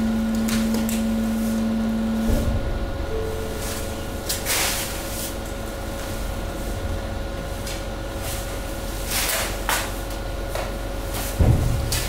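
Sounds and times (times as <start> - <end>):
hydraulic press humming: 0.0 - 12.0.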